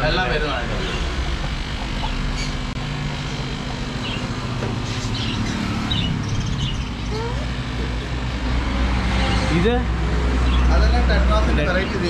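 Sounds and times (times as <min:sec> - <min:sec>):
caged birds chirping: 0:00.0 - 0:12.0
road traffic rumble: 0:00.0 - 0:12.0.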